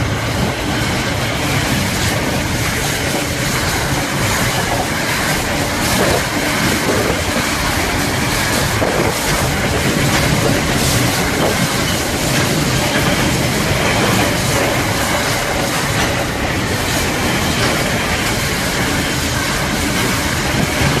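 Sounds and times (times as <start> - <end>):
freight wagons rumbling on rails: 0.0 - 21.0
wheels clacking over rail joints: 0.0 - 21.0.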